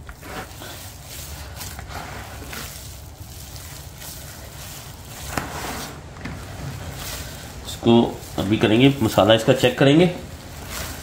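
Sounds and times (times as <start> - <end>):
low steady hum: 0.0 - 11.0
wet squelches of kneading meat: 0.0 - 11.0.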